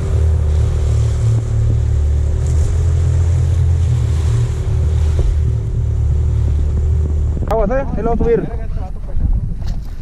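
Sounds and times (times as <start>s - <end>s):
outboard motor running: 0.0s - 10.0s
water rushing past hull: 0.0s - 10.0s.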